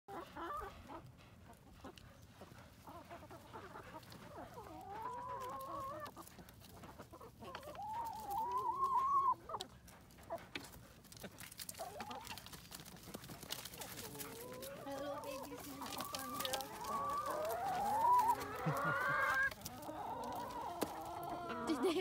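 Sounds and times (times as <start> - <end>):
long drawn-out chicken calls: 0.1 - 9.7, 11.3 - 21.9
chickens clucking: 0.1 - 22.0.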